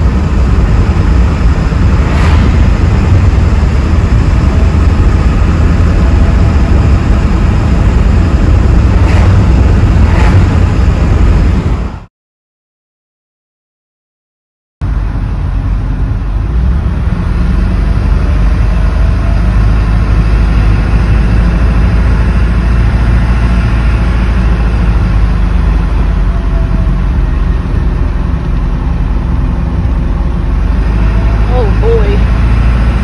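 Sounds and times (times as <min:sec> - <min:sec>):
road noise: 0:00.0 - 0:12.1, 0:14.8 - 0:33.0
truck engine droning: 0:00.0 - 0:12.1, 0:14.8 - 0:33.0.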